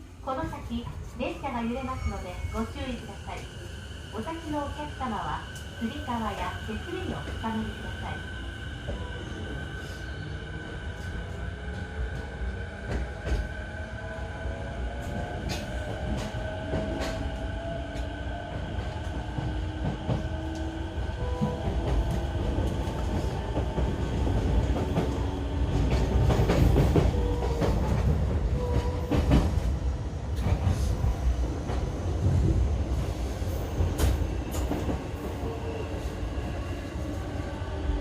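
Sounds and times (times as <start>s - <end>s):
low rumble of train car: 0.0s - 38.0s.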